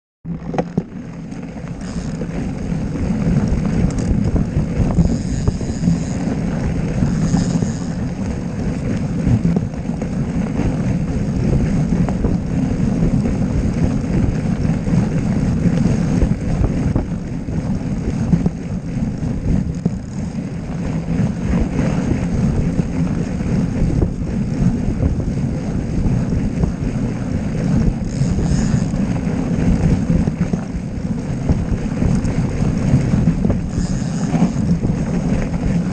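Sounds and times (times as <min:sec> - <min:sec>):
wind buffeting microphone: 0:00.2 - 0:35.9.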